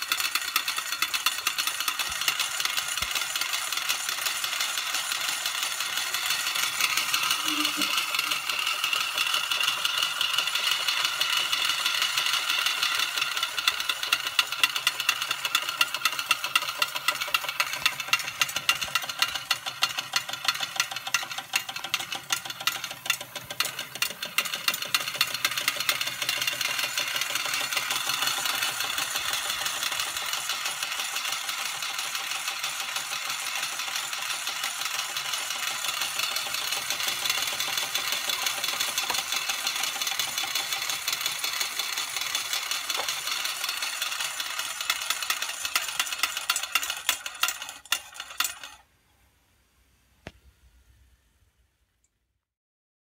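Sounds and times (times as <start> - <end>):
toy steam engine ticking clatter: 0.0 - 48.9.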